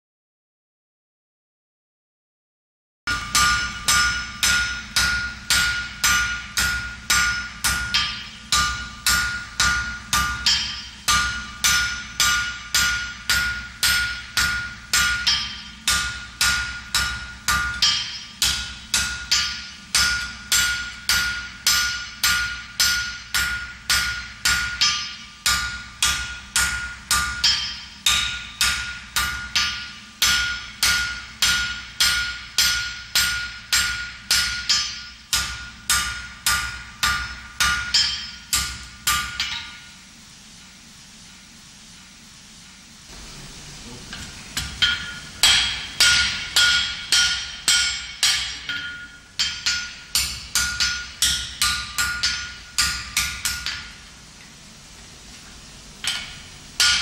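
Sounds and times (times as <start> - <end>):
anvil ringing: 3.1 - 40.0, 44.1 - 54.0, 56.0 - 57.0
hammer striking iron on anvil: 3.1 - 40.0, 44.1 - 54.1, 56.0 - 57.0.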